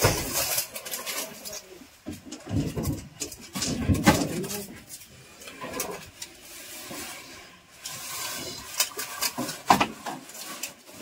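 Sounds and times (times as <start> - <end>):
objects rustling and scraping: 0.0 - 11.0.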